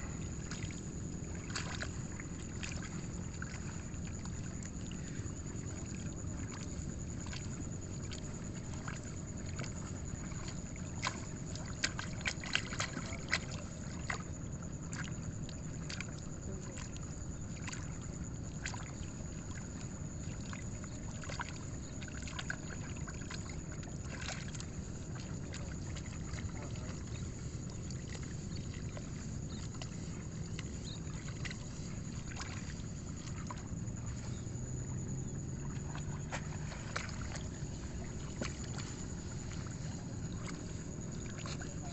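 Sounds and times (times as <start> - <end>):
muddy water sloshing and splashing: 0.0 - 41.9
steady low rumble: 0.0 - 41.9.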